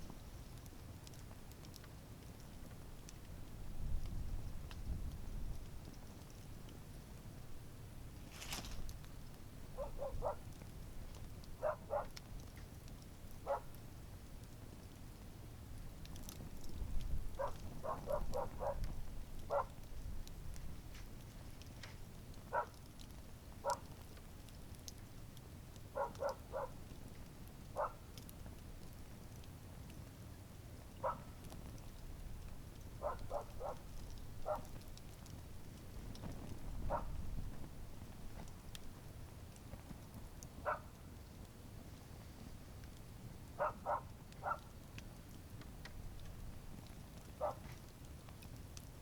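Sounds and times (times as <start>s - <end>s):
wood crackling in campfire: 0.0s - 49.0s.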